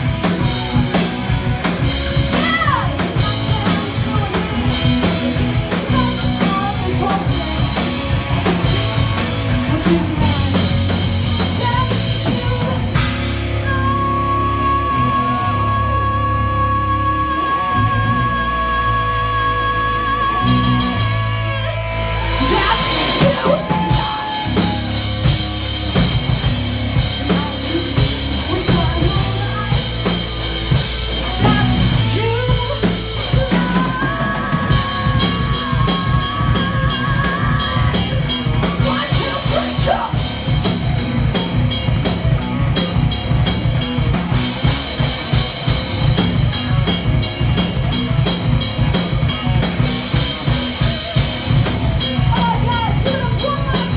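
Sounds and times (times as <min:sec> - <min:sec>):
fast bass drum strokes: 0:00.0 - 0:53.9
metal band playing: 0:00.0 - 0:53.9.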